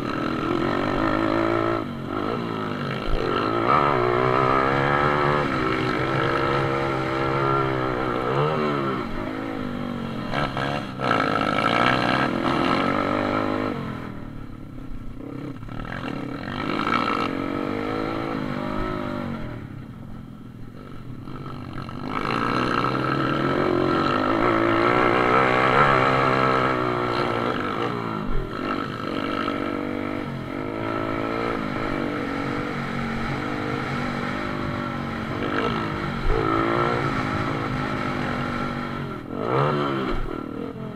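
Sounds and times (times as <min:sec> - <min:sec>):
motorbike engine revving: 0:00.0 - 0:40.9.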